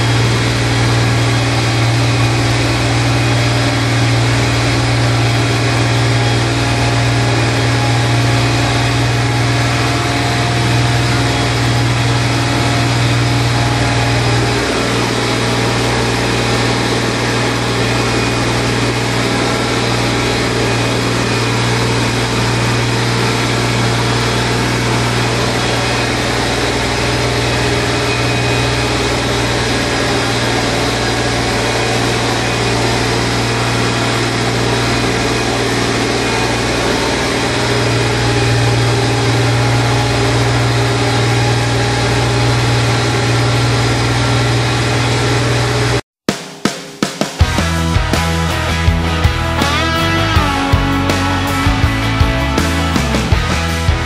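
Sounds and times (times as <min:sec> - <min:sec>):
tractor engine drone: 0:00.0 - 0:46.0, 0:47.4 - 0:54.0.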